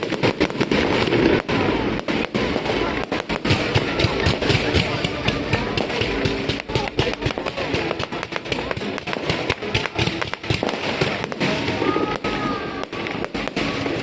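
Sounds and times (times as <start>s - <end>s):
fireworks bursting: 0.0s - 14.0s
music playing: 1.1s - 14.0s.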